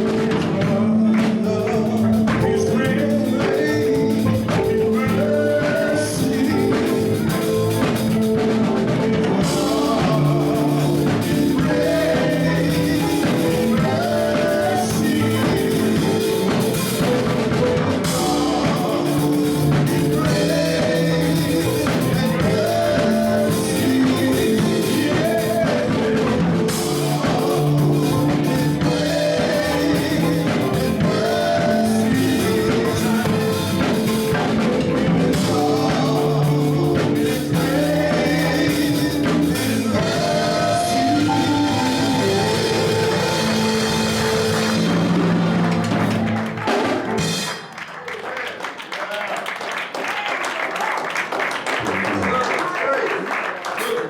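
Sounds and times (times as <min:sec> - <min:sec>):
person singing: 0:00.0 - 0:47.4
drum kit: 0:00.0 - 0:47.9
band music: 0:00.0 - 0:48.0.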